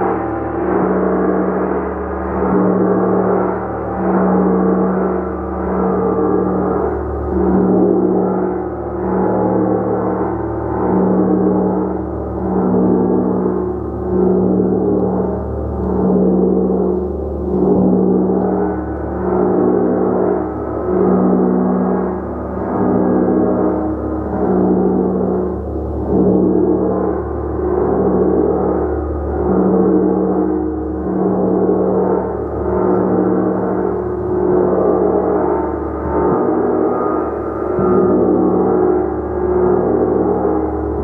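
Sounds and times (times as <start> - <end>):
gong humming: 0.0 - 41.0.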